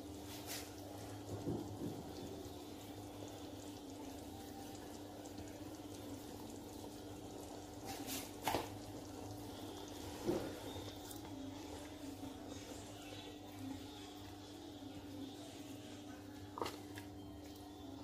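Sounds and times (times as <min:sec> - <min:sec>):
stew bubbling in a pot: 0:00.0 - 0:18.0.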